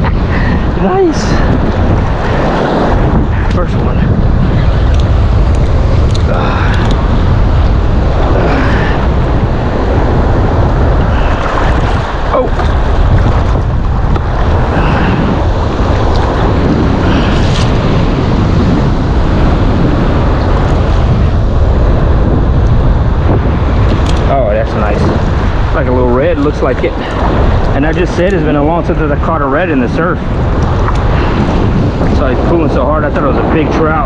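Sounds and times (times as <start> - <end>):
surf breaking: 0.0 - 34.0
wind buffeting microphone: 0.0 - 34.0.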